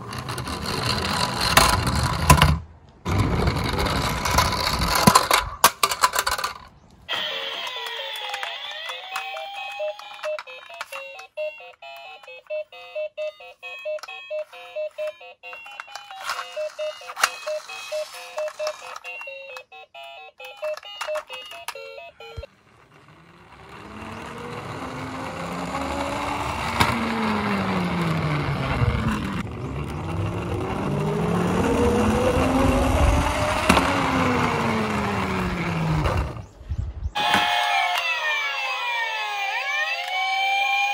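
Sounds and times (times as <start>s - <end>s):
plastic wheels rolling on wood: 0.0s - 12.7s, 13.6s - 36.6s
toy fire engine siren wailing: 7.1s - 36.4s, 37.2s - 40.9s.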